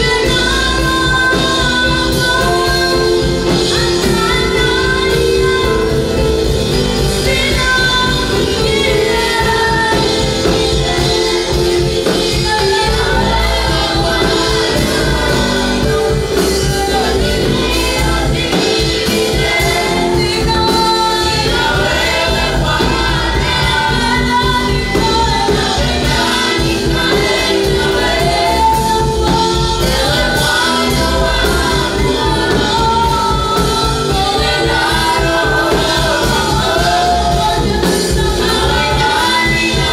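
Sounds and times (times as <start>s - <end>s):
band accompaniment: 0.0s - 39.9s
gospel choir singing: 0.0s - 39.9s.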